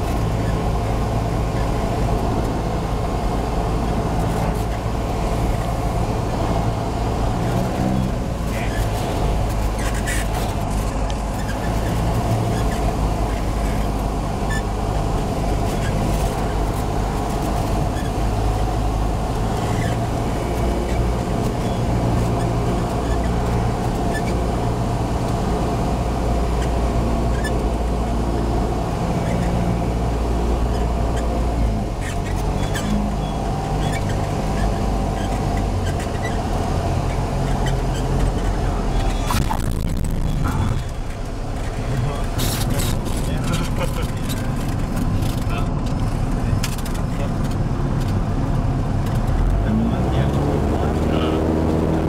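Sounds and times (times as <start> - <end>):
aircraft engine and propeller: 0.0 - 52.0.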